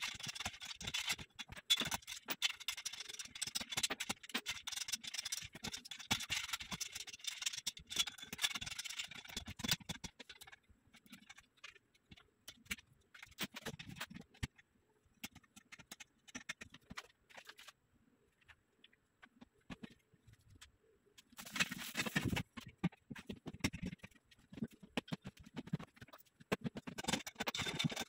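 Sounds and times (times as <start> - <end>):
scratching and scraping on metal: 0.0 - 14.6, 19.2 - 28.0.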